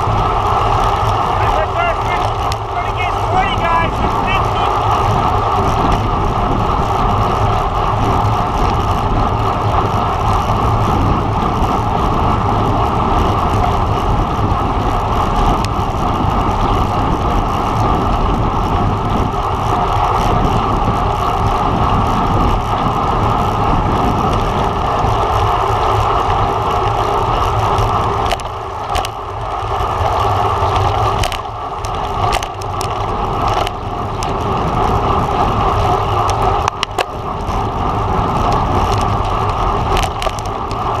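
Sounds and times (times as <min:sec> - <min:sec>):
bicycle tyre noise: 0:00.0 - 0:41.0
wind rushing over microphone: 0:00.0 - 0:41.0.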